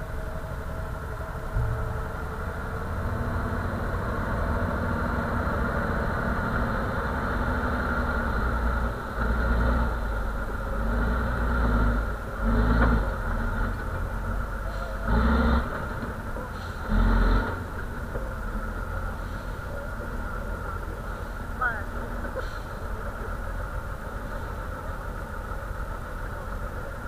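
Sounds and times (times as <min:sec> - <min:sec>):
vehicle engine revving: 0:01.5 - 0:27.0.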